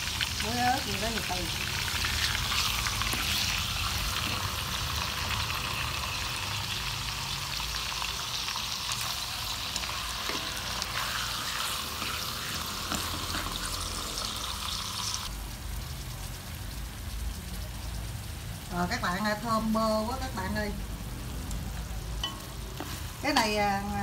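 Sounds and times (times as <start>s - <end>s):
meat frying in butter: 0.0s - 24.0s.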